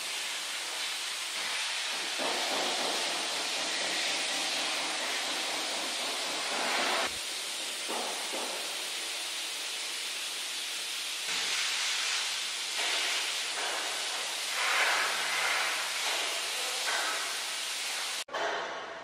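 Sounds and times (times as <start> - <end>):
steady hiss: 0.0 - 18.3.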